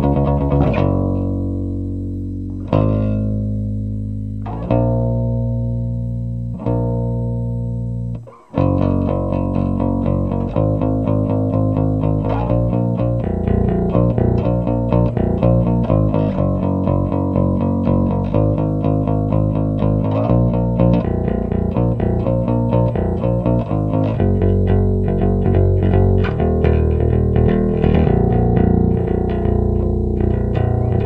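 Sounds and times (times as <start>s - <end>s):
electric bass guitar: 0.0s - 31.0s.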